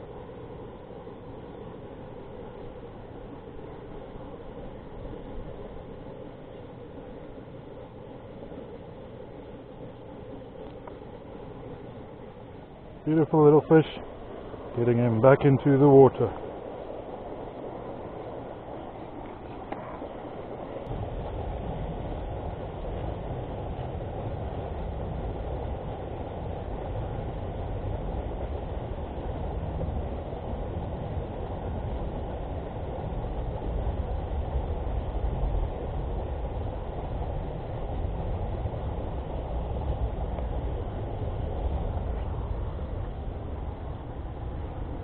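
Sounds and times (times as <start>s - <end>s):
low rumbling noise: 0.0s - 45.0s.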